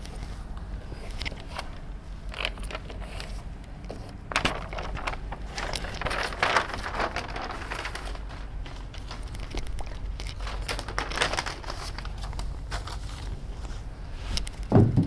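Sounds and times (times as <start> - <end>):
paper crinkling and rustling: 0.0 - 14.8.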